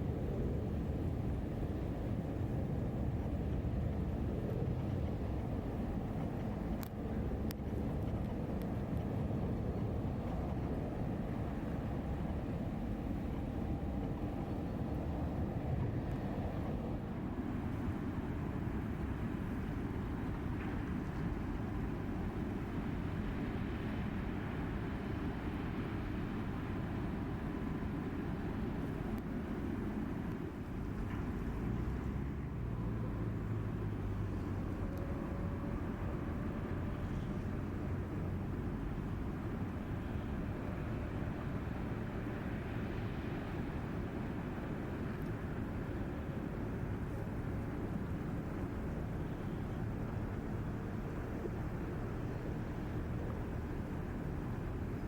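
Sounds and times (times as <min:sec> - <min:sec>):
boat engine low rumble: 0:00.0 - 0:55.0.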